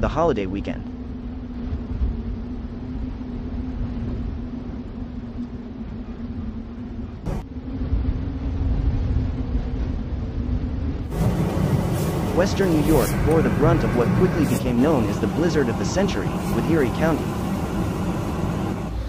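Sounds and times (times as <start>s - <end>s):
low hum: 0.0s - 19.0s
low rumble: 0.0s - 19.0s.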